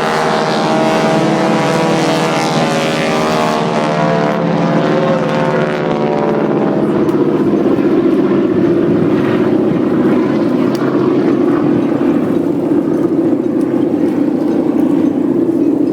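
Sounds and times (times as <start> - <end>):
propeller aircraft engine droning: 0.0 - 15.9.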